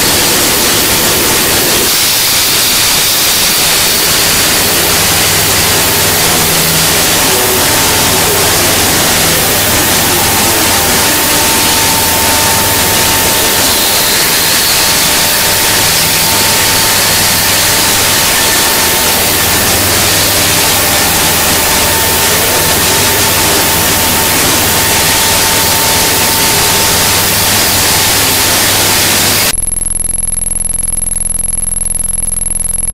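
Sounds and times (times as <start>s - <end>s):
stone cutting and spray hiss: 0.0s - 29.5s
spindle whine: 0.0s - 32.9s
low hum: 2.7s - 32.9s.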